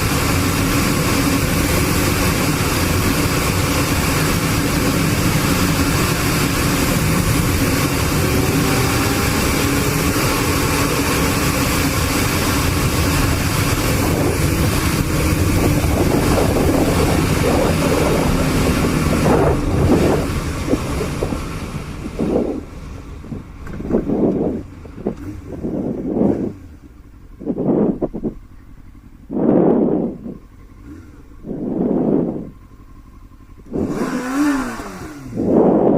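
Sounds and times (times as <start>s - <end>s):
vehicle road and wind noise: 0.0s - 35.9s.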